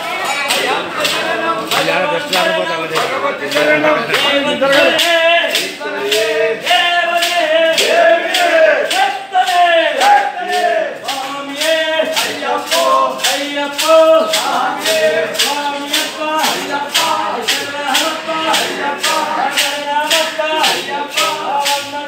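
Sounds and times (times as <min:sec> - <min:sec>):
men singing a devotional chant: 0:00.0 - 0:22.0
steady percussion beat: 0:00.0 - 0:22.0.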